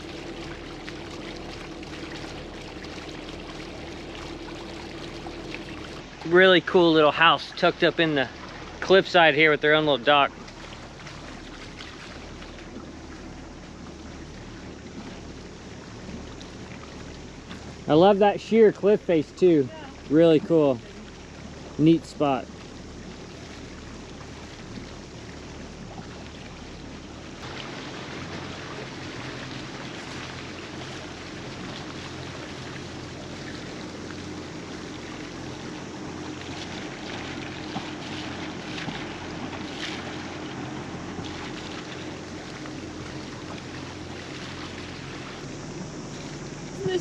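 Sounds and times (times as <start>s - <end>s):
low steady hum: 0.0s - 47.0s
water washing along hulls: 0.0s - 47.0s.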